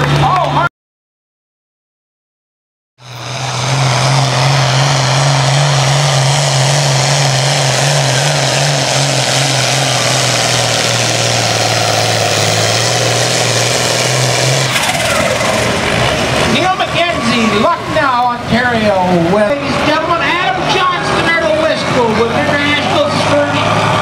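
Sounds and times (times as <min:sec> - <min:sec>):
tractor engine at full throttle: 0:00.0 - 0:00.7, 0:03.0 - 0:24.0.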